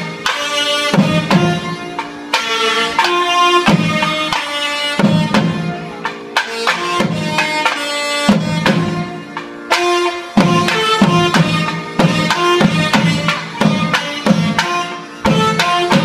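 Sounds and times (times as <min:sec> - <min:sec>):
barrel drums striking: 0:00.0 - 0:16.0.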